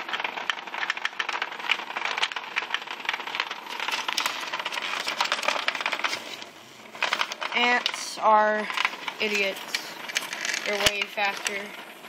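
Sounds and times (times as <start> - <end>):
vibrating robot toys rattling: 0.0 - 12.0.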